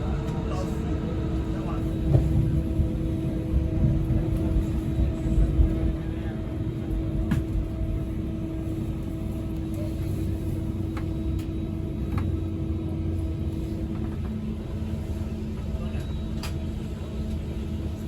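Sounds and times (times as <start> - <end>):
train interior rumble and hum: 0.0 - 18.0.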